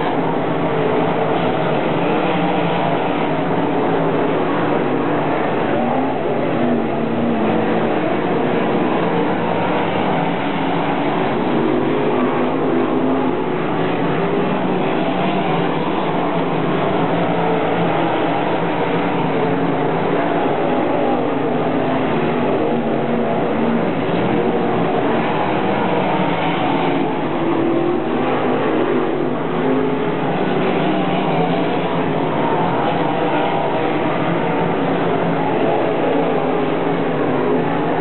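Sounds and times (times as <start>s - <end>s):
race car engines roaring: 0.0s - 38.0s.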